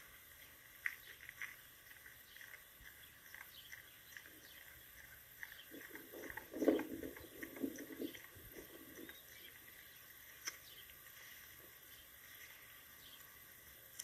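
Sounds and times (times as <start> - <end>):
dog chewing: 0.0 - 11.4.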